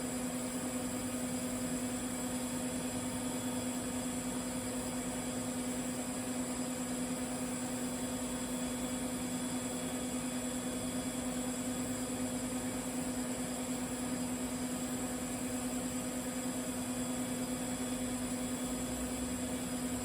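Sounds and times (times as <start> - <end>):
welder hum with high hiss: 0.0 - 20.0.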